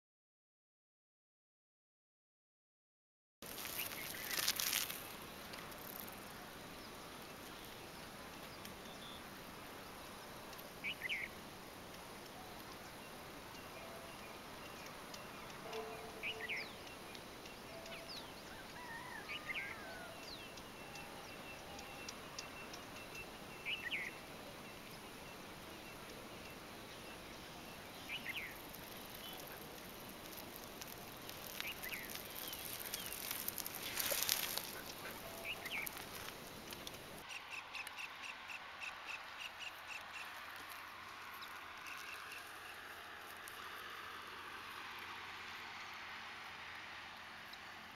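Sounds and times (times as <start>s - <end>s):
birds chirping: 3.5s - 43.6s
steady background hiss: 3.5s - 47.9s.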